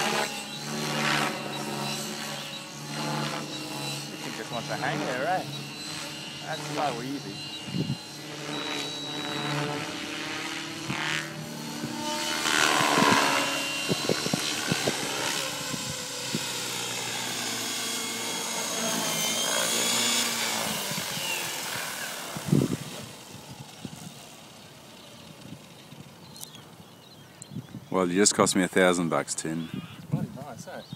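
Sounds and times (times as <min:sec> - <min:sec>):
model helicopter rotor hum: 0:00.0 - 0:30.9.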